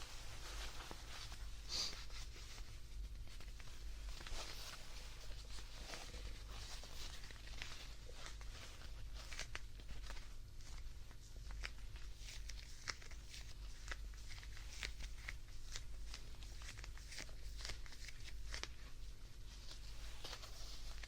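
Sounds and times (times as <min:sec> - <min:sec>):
fabric scratching and rustling: 0:00.0 - 0:21.0.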